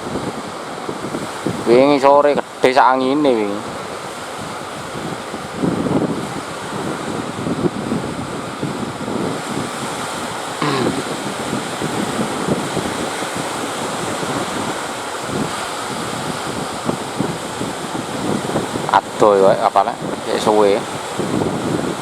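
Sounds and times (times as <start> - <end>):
sea surf: 0.0 - 22.0
wind buffeting microphone: 0.0 - 22.0.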